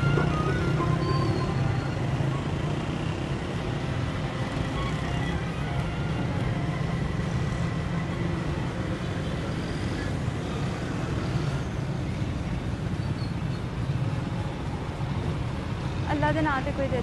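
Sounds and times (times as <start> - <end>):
road traffic engine hum: 0.0 - 17.0.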